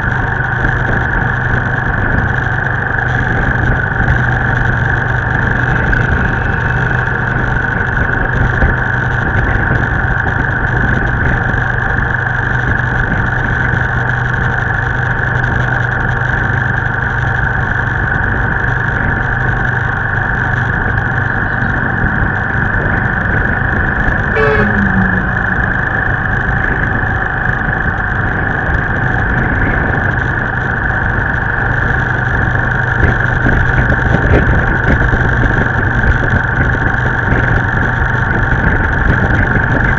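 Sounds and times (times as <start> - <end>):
motorbike engine droning: 0.0 - 39.9
traffic: 0.0 - 39.9
wind noise: 0.0 - 39.9.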